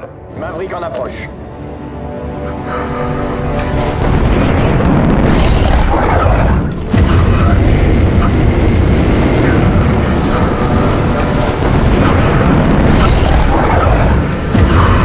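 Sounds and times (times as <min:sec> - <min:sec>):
fighter jet engines roaring: 0:02.2 - 0:15.0.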